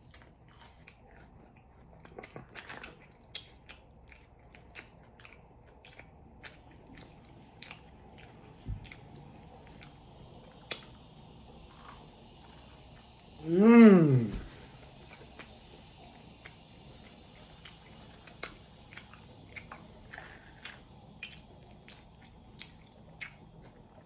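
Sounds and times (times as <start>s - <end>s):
chewing and crunching: 0.0s - 13.4s, 14.6s - 24.0s.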